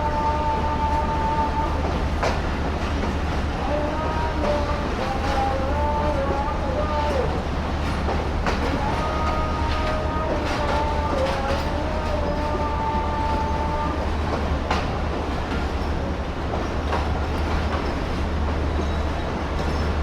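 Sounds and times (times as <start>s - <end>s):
train coaches rumbling: 0.0s - 20.0s.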